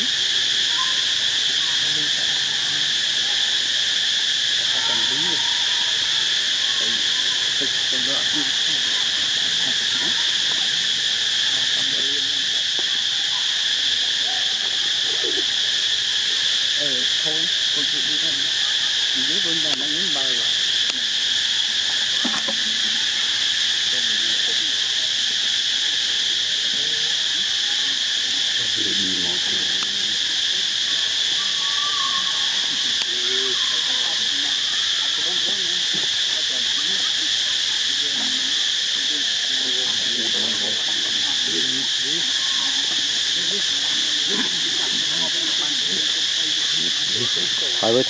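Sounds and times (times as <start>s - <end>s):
insect chorus drone: 0.0s - 48.0s
faint low voices: 0.7s - 48.0s.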